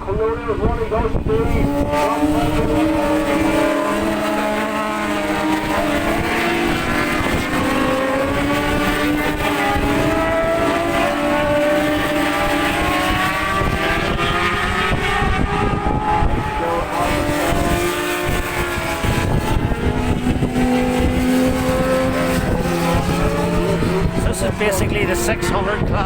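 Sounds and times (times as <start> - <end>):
racing motorcycles at high revs: 0.0 - 26.0
wind buffeting microphone: 0.0 - 26.0.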